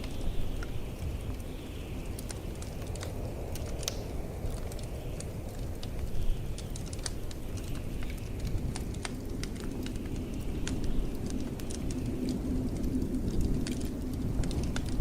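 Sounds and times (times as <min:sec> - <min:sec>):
blizzard wind rumble: 0:00.0 - 0:15.0
wood fire crackling and popping: 0:00.0 - 0:15.0.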